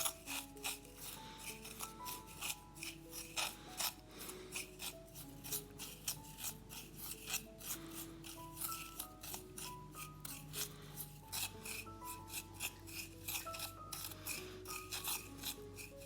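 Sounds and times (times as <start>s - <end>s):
rasping scraping strokes: 0.0s - 16.0s
soft music of held notes: 0.0s - 16.0s.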